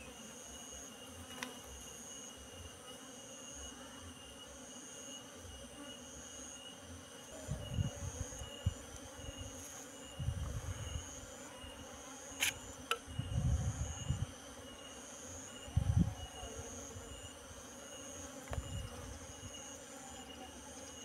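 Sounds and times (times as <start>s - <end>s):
bees swarming: 0.0s - 21.0s
high insect trill: 0.0s - 21.0s.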